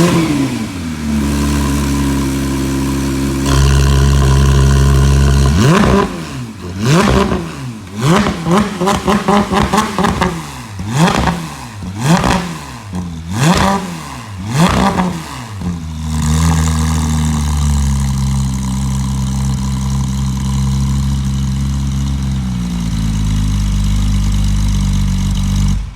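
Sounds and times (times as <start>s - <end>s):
car engine revving and idling: 0.0s - 25.9s.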